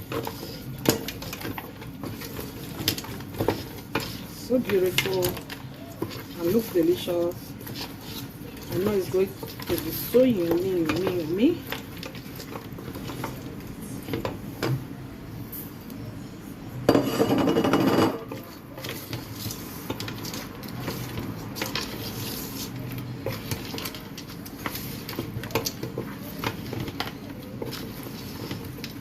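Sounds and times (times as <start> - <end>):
spoon scraping in a pot: 0.0 - 13.5, 16.9 - 29.0.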